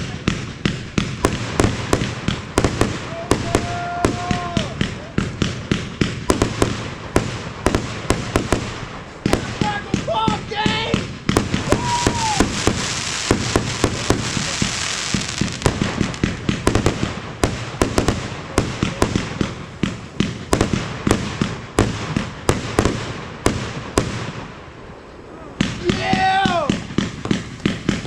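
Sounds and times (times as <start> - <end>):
fireworks bangs and pops: 0.0 - 28.0
fireworks hiss: 0.0 - 28.0.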